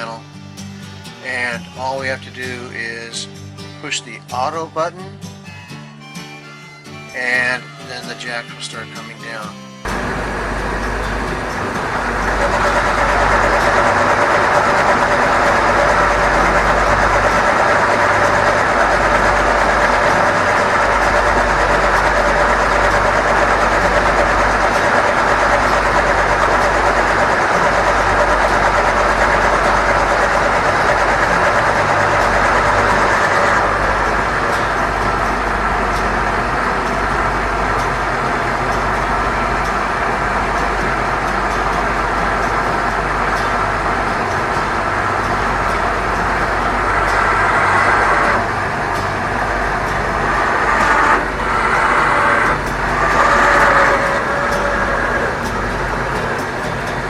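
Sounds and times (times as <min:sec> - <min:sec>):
leveling jack motor whining: 0:00.0 - 0:03.6, 0:05.3 - 0:57.0.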